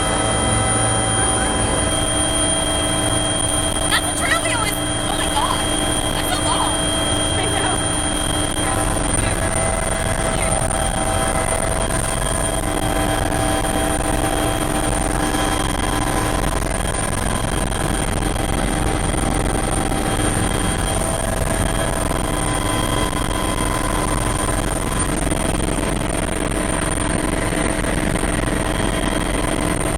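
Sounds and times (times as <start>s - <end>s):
helicopter rotor and engine rush: 0.0s - 29.9s
high whine: 0.0s - 29.9s.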